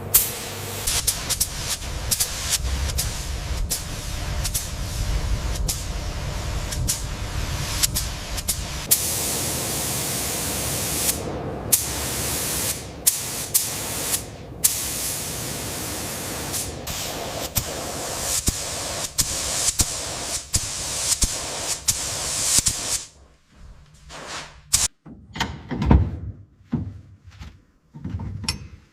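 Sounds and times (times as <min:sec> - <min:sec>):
spray gun hissing: 0:00.0 - 0:23.2, 0:24.0 - 0:24.9.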